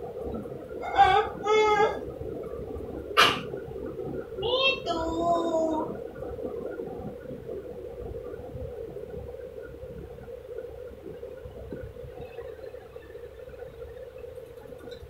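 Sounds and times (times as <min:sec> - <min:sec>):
low hum with faint crackling: 0:00.0 - 0:15.0.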